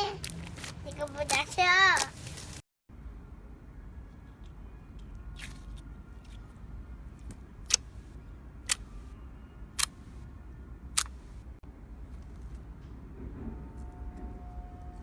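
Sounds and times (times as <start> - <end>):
low steady hum: 2.9 - 15.0.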